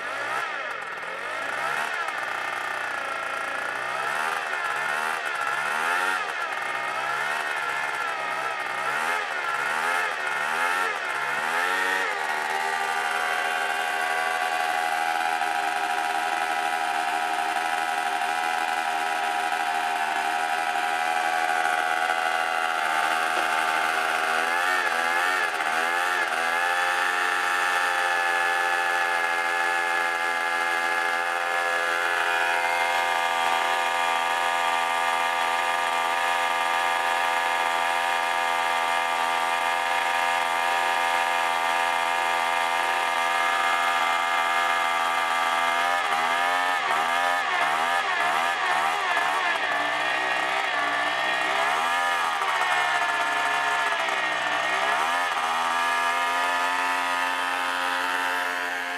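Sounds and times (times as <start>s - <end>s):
scooter two-stroke engine running: 0.0s - 58.9s.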